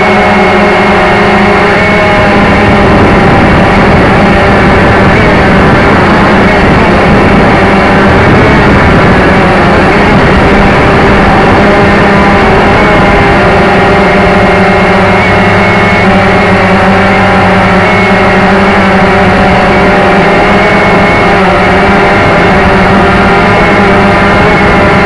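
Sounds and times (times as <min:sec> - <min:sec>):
model aircraft motor drone: 0:00.0 - 0:25.0
wind rushing across microphone: 0:00.0 - 0:25.0.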